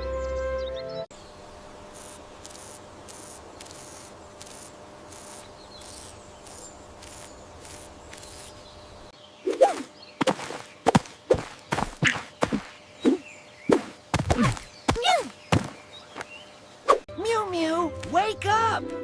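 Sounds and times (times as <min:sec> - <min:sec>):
insects chirping in pulses: 0:01.1 - 0:17.0.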